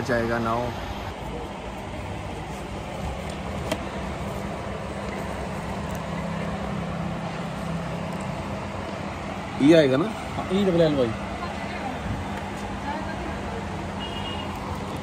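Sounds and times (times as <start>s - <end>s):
shop background hum: 0.0s - 15.0s.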